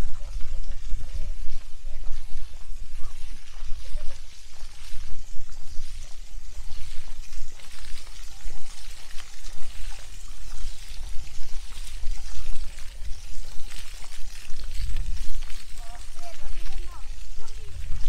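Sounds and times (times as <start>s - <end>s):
rushing splashing water: 0.0s - 18.0s.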